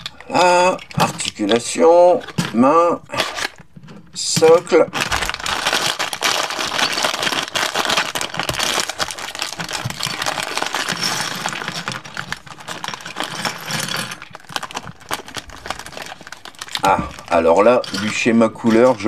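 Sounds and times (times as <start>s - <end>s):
plastic bag crinkling and tearing: 0.0s - 19.0s
small plastic parts rattling: 0.0s - 19.0s.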